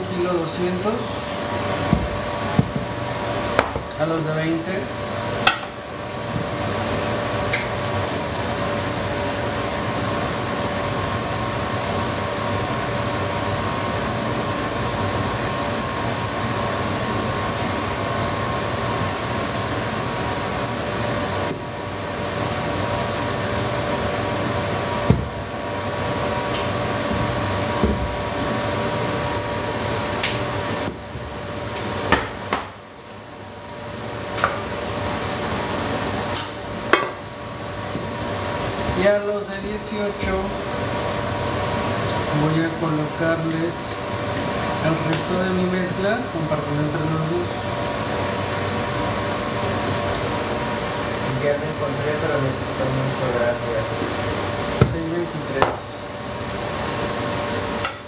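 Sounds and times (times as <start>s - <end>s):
appliance hum and whine: 0.0s - 58.0s.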